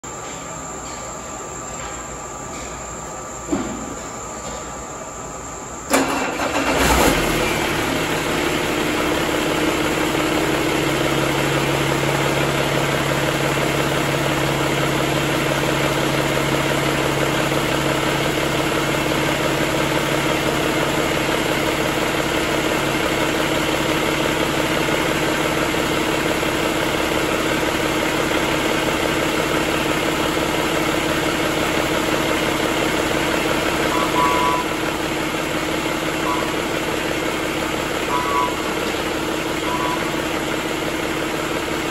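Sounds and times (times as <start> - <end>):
diesel engine idling: 5.2 - 41.9.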